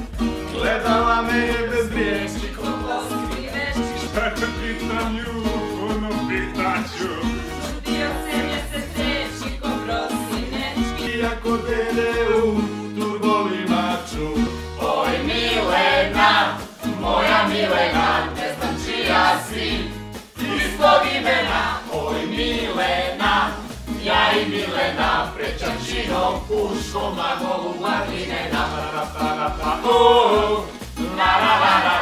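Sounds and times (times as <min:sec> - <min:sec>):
strummed acoustic guitar: 0:00.0 - 0:32.0
group of voices singing: 0:00.4 - 0:32.0.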